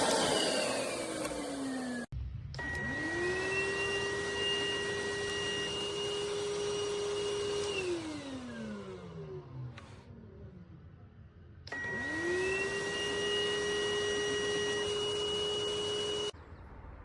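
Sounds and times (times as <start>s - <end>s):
vacuum cleaner motor whining: 0.0s - 10.7s, 11.6s - 16.4s.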